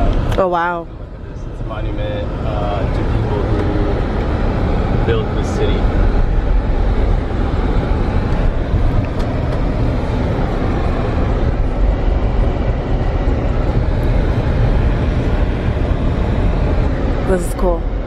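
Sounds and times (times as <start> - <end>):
car cabin road rumble: 0.0 - 18.0.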